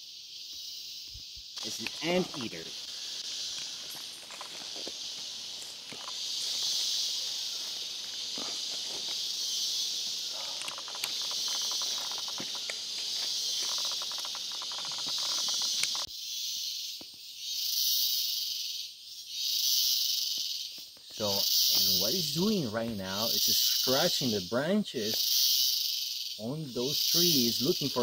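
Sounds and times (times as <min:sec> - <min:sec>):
insect chorus hissing: 0:00.0 - 0:28.0
pulsing insect drone: 0:00.0 - 0:28.0.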